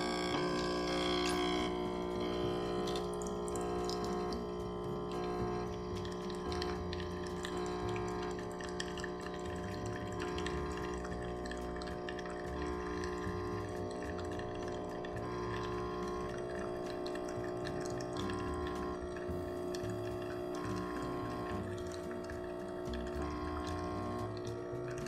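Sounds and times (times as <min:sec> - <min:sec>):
espresso machine pulling a shot: 0:00.0 - 0:11.2, 0:11.8 - 0:25.0
soft background music: 0:00.2 - 0:25.0
coffee dripping into a glass cup: 0:00.3 - 0:25.0.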